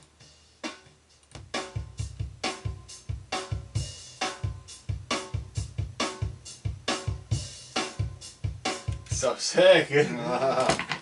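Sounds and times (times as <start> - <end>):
drum kit groove: 0.0 - 11.0.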